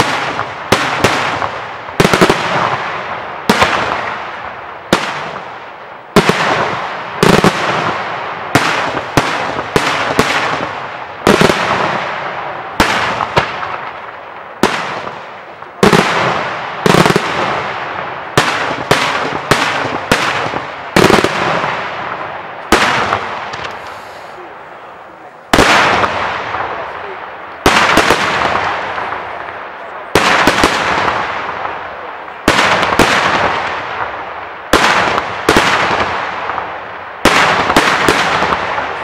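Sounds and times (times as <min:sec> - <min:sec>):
fireworks bursting with loud bangs: 0:00.0 - 0:39.0.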